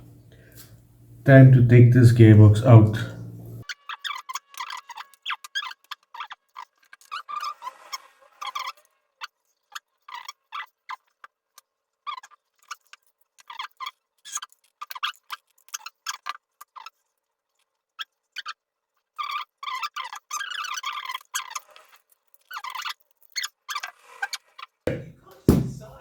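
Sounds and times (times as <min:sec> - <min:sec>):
clicks and squeaks of plastic parts: 0:03.6 - 0:24.8.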